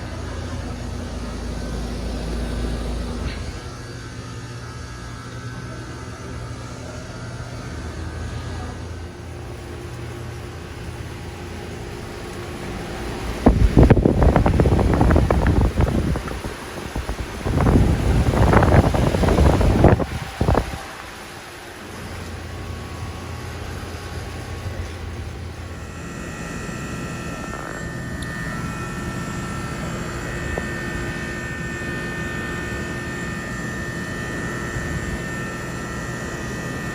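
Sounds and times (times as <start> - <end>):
air conditioning unit hum: 0.0 - 36.9
higher hum tone: 0.0 - 36.9.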